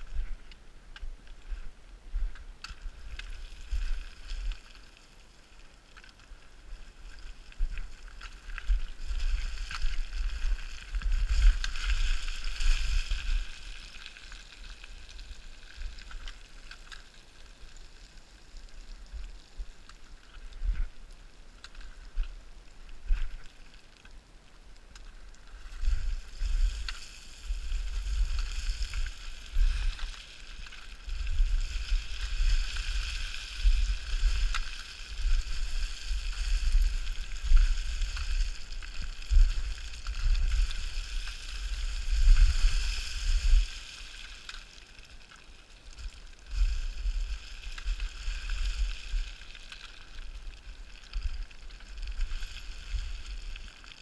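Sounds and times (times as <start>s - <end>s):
scree crunching and sliding underfoot: 0.0s - 54.0s.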